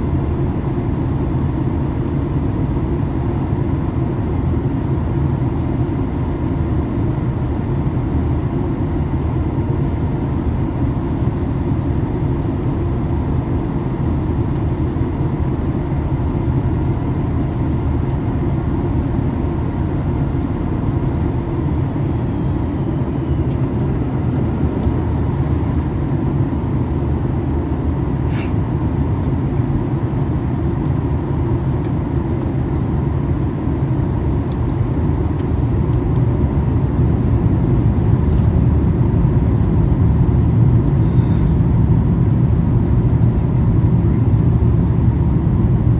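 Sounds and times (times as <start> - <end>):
airplane cabin rumble: 0.0 - 45.9.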